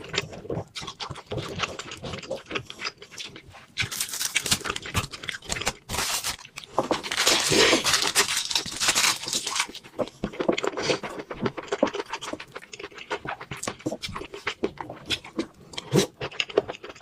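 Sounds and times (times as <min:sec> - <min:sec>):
person chewing and crunching food: 0:00.0 - 0:17.0.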